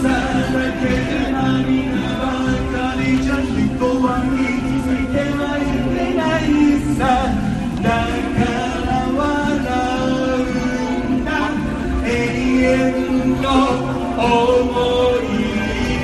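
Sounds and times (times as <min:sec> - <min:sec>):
backing music with steady beat: 0:00.0 - 0:16.0
pop singer holding long notes: 0:00.0 - 0:16.0.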